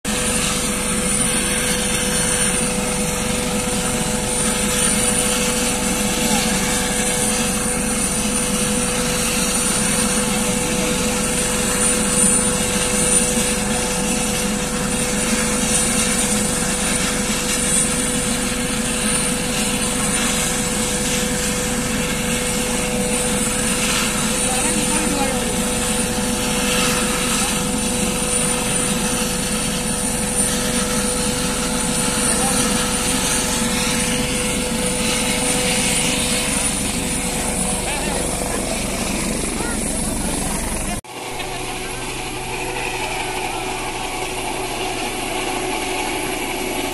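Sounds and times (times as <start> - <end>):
helicopter turbine whine: 0.0 - 46.9
rotor hum: 0.1 - 46.9.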